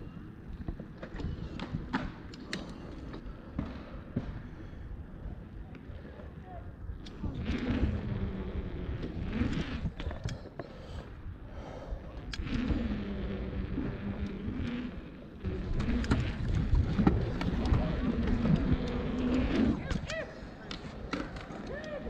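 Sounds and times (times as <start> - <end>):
bike tyres humming on concrete: 0.0 - 22.0.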